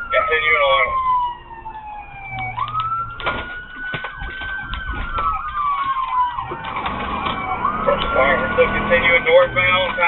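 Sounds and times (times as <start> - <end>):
police siren wailing: 0.0 - 10.0.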